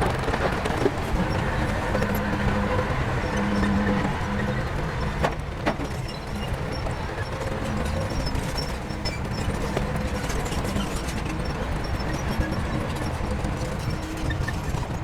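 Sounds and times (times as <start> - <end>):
heavy diesel machinery running: 0.1 - 15.0.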